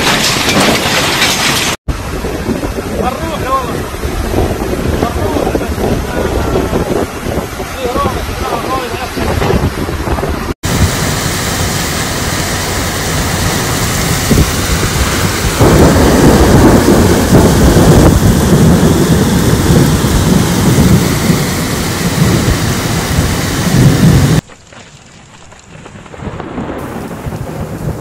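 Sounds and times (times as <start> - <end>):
floodwater rushing over rocks: 2.9 - 25.7.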